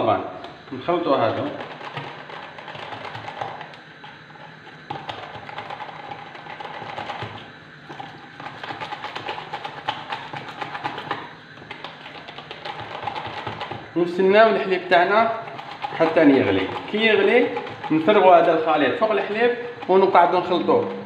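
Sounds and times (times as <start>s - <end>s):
whisk rattling in a plastic jug: 0.7s - 21.0s.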